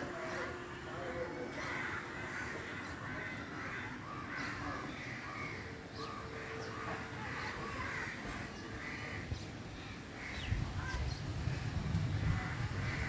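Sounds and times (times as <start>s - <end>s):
crows cawing: 0.1s - 10.6s, 12.2s - 13.0s.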